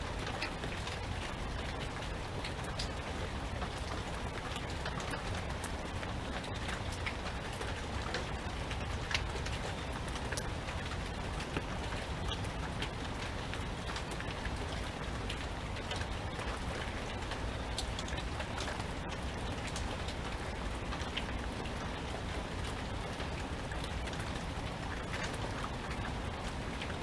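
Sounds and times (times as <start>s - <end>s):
raindrops ticking: 0.0s - 27.0s
steady rain falling: 0.0s - 27.0s.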